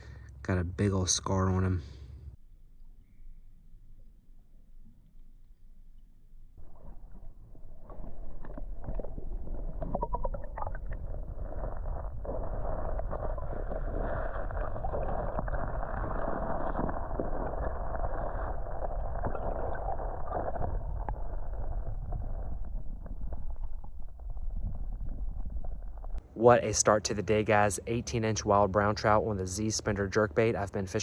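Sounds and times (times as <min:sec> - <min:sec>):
low rumble: 0:00.0 - 0:30.6.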